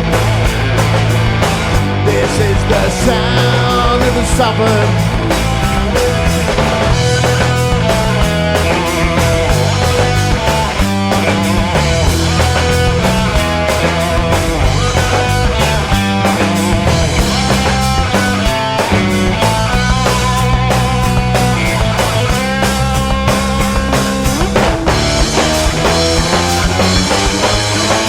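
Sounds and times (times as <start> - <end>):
bass guitar: 0.0 - 28.0
electric guitar lead notes: 0.0 - 28.0
steady drum beat: 0.0 - 28.0.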